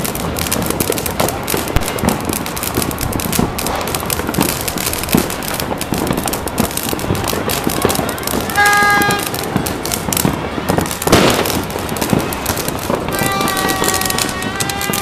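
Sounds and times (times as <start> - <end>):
firecrackers crackling and popping: 0.0 - 15.0.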